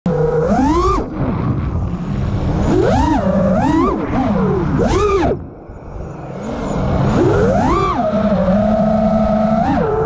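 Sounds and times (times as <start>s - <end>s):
quadcopter motors whining: 0.1s - 10.0s
wind on microphone: 0.6s - 9.8s.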